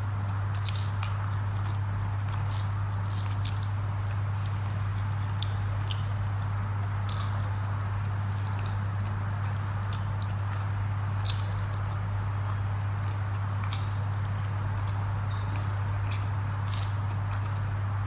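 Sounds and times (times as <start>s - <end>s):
steady low hum: 0.0s - 18.0s
chewing and mouth clicks: 0.2s - 17.8s
fingers squishing food: 0.2s - 17.8s.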